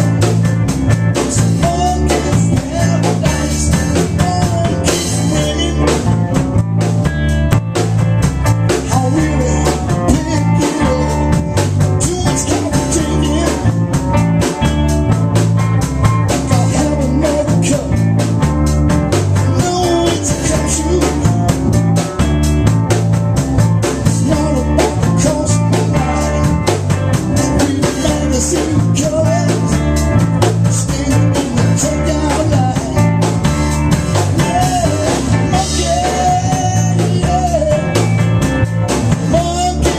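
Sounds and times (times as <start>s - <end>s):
bass guitar: 0.0s - 39.9s
drum kit with rimshots: 0.0s - 39.9s
electric guitar: 0.0s - 39.9s.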